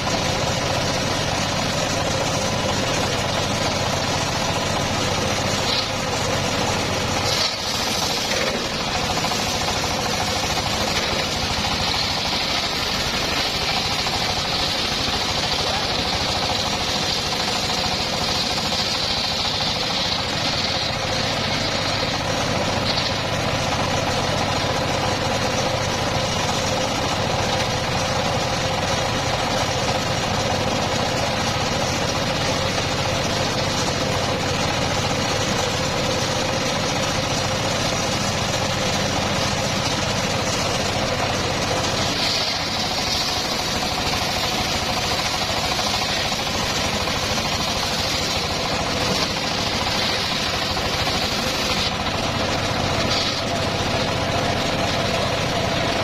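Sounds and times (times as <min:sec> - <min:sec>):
knocking engine running: 0:00.0 - 0:56.0.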